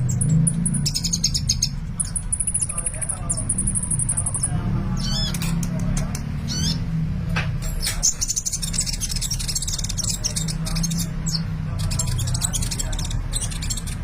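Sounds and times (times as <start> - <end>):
sunbird chirping: 0.0 - 5.6, 6.4 - 6.9, 7.8 - 14.0.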